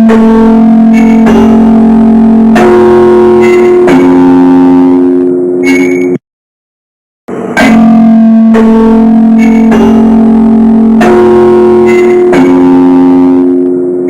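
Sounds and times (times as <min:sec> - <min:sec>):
slow melody of distorted notes: 0:00.0 - 0:06.2, 0:07.3 - 0:14.0.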